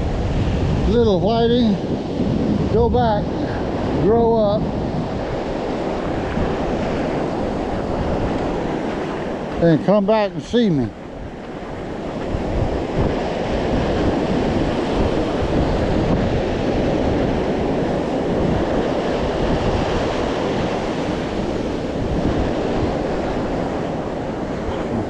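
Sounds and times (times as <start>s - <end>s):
ocean surf rushing: 0.0s - 25.0s
wind on microphone: 0.0s - 25.0s.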